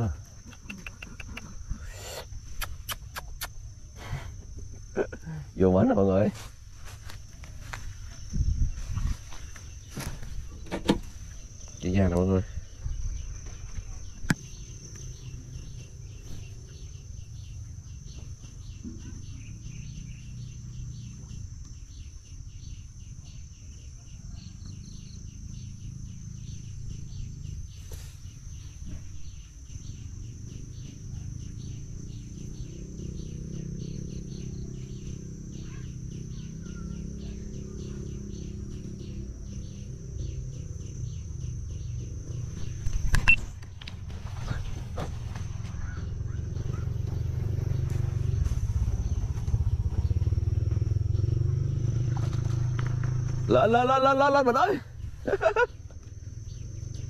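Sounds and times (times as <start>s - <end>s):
insects trilling: 0.0s - 57.0s
pulsing insect chirp: 0.0s - 57.0s.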